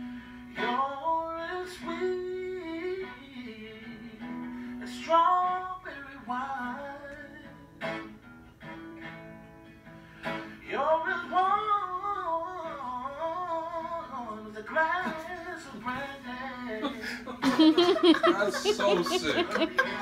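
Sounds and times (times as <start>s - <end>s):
man singing: 0.0s - 7.8s, 10.6s - 20.0s
acoustic guitar strumming: 0.0s - 20.0s.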